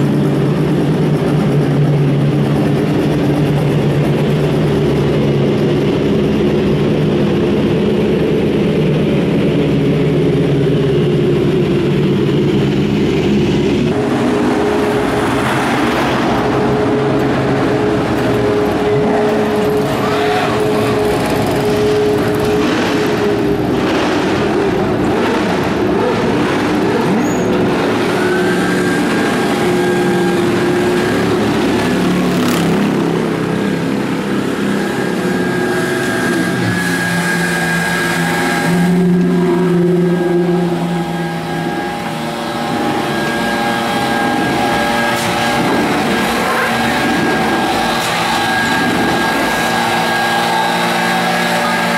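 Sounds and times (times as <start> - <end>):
race car engine idling: 0.0 - 50.4
pit lane noise: 0.0 - 51.9.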